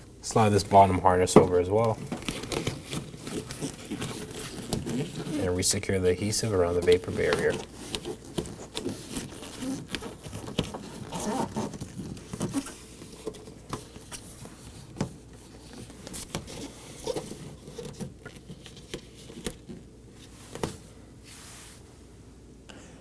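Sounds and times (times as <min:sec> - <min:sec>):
plastic sheet rustling and crinkling: 0:00.2 - 0:21.8.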